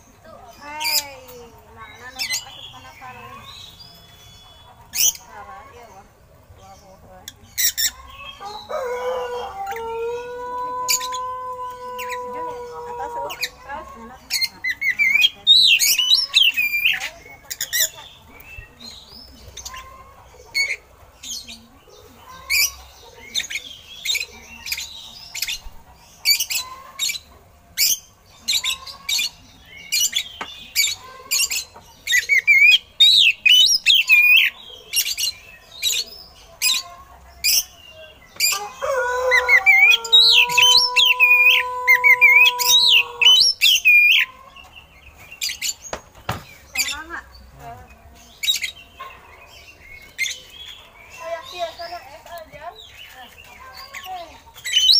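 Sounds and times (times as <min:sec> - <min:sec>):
bird singing: 0:00.0 - 0:54.9.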